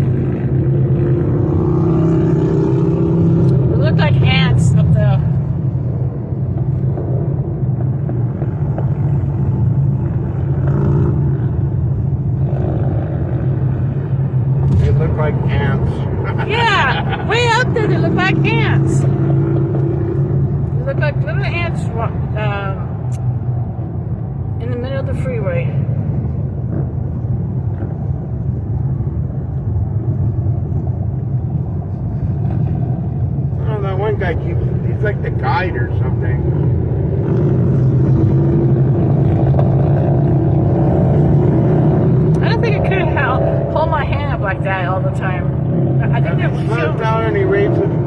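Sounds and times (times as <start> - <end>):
road and engine rumble inside car: 0.0 - 48.0.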